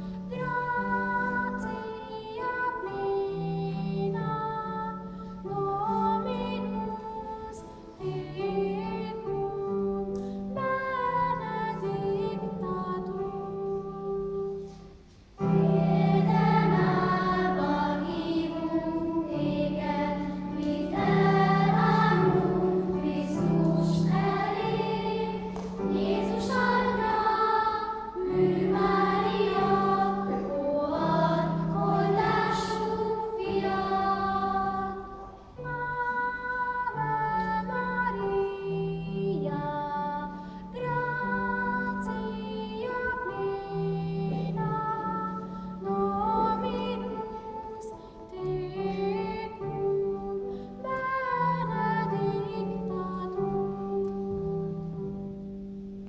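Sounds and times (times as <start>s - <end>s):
children's choir singing: 0.0s - 55.2s.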